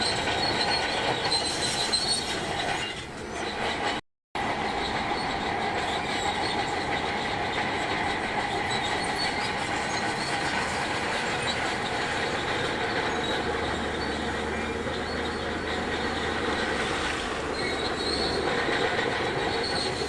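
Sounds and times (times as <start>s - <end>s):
bulldozer engine and clanking tracks: 0.0s - 20.0s.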